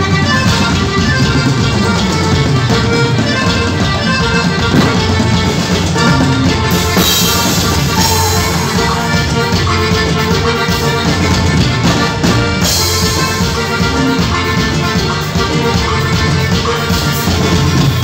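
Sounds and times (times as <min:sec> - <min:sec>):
drum kit beat: 0:00.0 - 0:18.0
live band music: 0:00.0 - 0:18.0.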